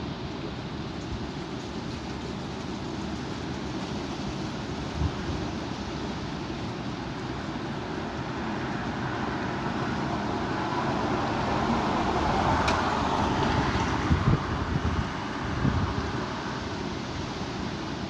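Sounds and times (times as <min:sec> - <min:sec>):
strong wind buffeting microphone: 0:00.9 - 0:18.0.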